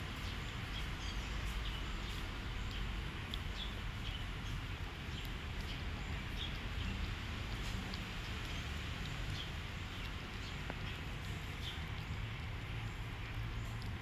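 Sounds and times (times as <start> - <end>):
puppy chewing and smacking: 0.7 - 14.0.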